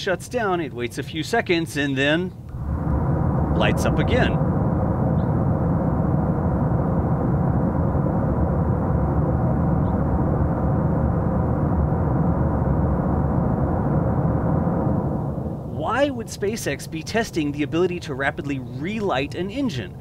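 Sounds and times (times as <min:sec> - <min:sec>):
rocket engine rumble: 0:02.3 - 0:20.0.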